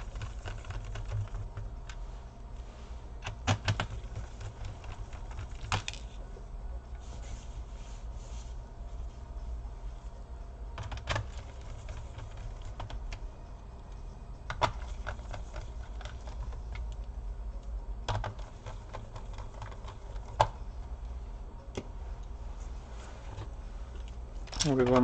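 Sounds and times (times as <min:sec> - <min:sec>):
low hum: 0:00.0 - 0:24.6.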